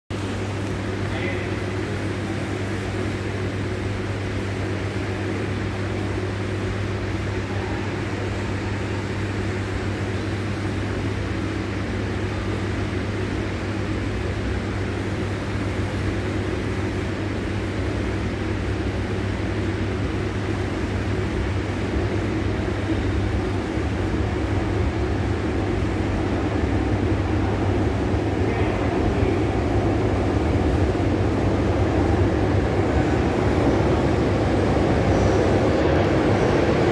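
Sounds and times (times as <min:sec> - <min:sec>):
subway train hum and rumble: 0:00.1 - 0:36.9.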